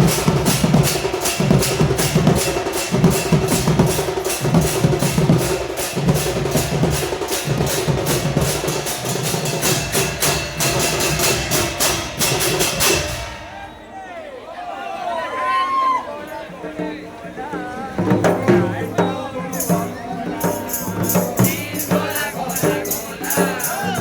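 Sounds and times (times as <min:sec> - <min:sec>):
pulsing drum beat: 0:00.0 - 0:13.7, 0:16.6 - 0:24.0
bell-metal gongs struck fast: 0:00.0 - 0:13.9, 0:18.4 - 0:24.0.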